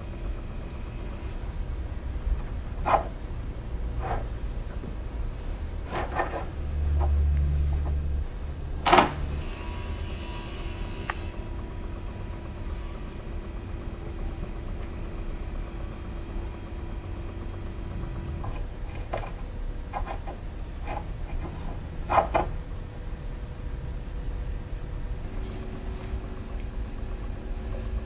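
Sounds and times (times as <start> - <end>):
faint steady hum: 0.0 - 28.0
record player low rumble: 0.0 - 28.0.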